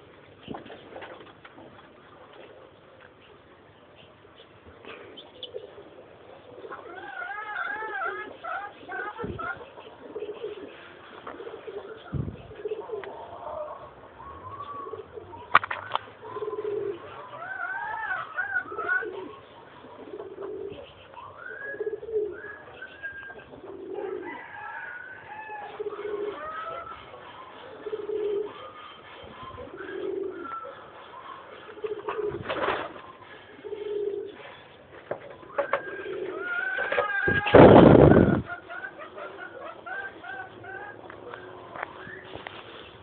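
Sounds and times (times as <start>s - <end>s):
pigeons cooing: 4.8s - 43.0s.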